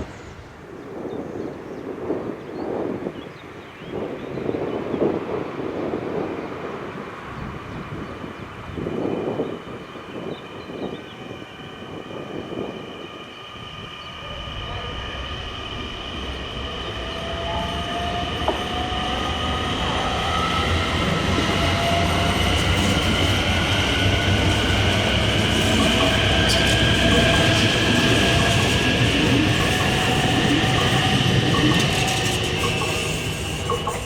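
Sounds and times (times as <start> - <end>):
train rumble: 0.0 - 3.2, 4.0 - 34.0.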